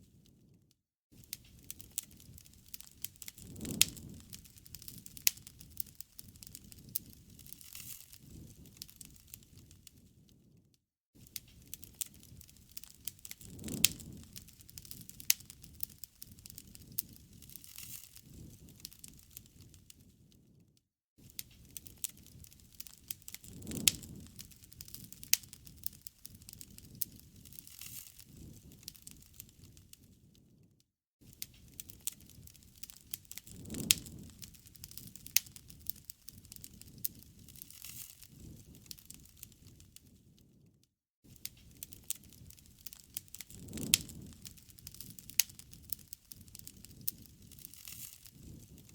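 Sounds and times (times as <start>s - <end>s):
low rumble of flames: 0.0s - 40.7s, 41.3s - 48.9s
campfire crackling: 1.2s - 10.3s, 11.2s - 20.2s, 21.2s - 30.2s, 31.3s - 40.4s, 41.3s - 48.9s
sharp pops from fire: 1.2s - 10.6s, 11.2s - 20.6s, 21.2s - 30.6s, 31.2s - 40.6s, 41.3s - 48.9s.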